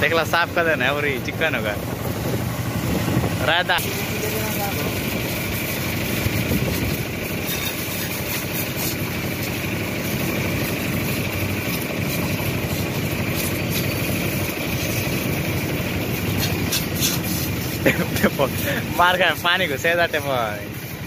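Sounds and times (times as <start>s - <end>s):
pressure washer pump humming: 0.0s - 21.0s
water jet hissing on metal: 3.6s - 21.0s.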